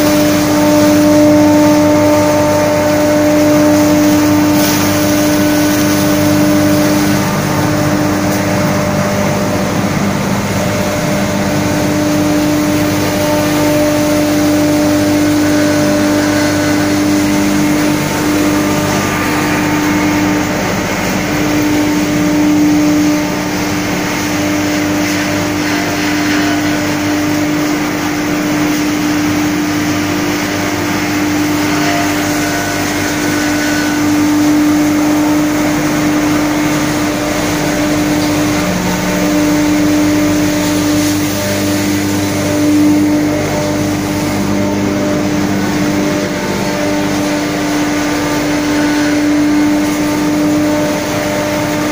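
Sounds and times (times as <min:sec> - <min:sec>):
machine humming: 0:00.0 - 0:51.9
straw shredding rushing noise: 0:00.0 - 0:51.9.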